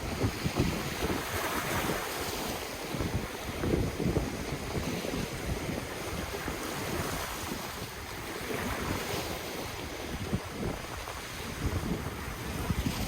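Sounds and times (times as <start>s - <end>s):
ocean waves on shore: 0.0s - 13.0s
wind buffeting microphone: 0.0s - 13.0s.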